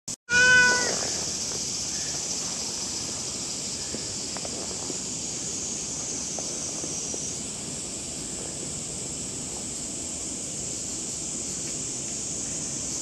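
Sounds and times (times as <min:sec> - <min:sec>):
cicada chorus drone: 0:00.3 - 0:13.0.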